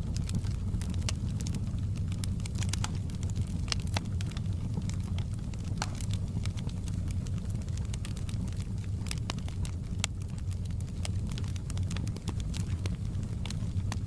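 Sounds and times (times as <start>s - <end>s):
wood crackling and popping: 0.0s - 14.0s.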